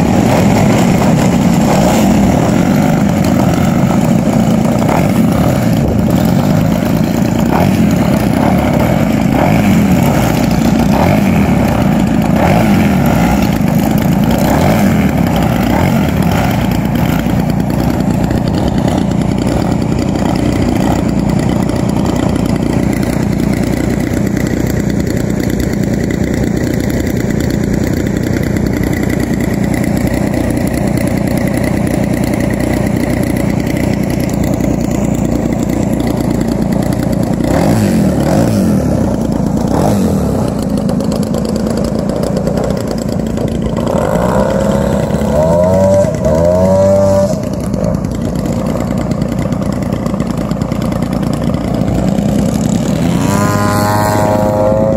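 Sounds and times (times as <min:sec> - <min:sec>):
model airplane engine running: 0:00.0 - 0:54.9.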